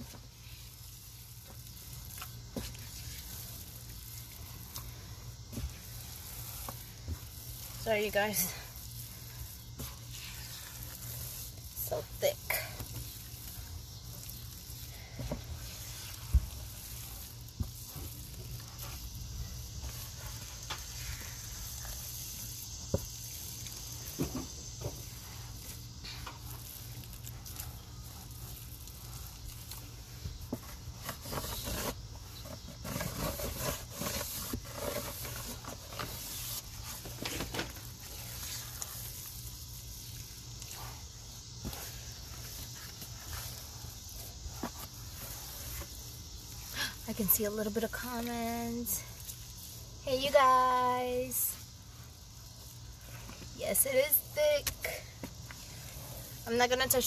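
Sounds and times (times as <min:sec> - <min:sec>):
low outdoor hum: 0:00.0 - 0:57.0.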